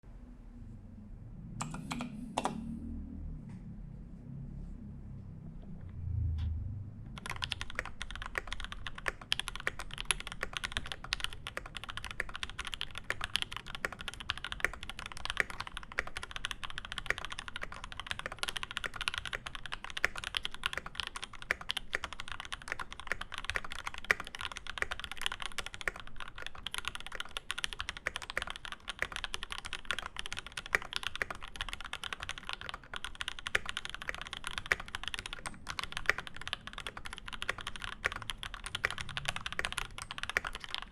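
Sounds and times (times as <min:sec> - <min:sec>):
mechanical keyboard typing: 0:01.6 - 0:02.6, 0:07.1 - 0:40.9.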